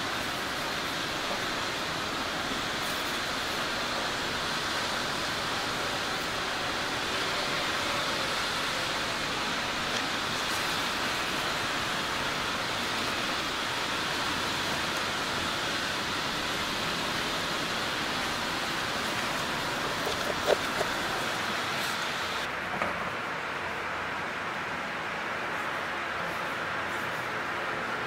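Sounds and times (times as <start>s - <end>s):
subway train rushing through tunnel: 0.0s - 20.2s, 21.0s - 28.0s.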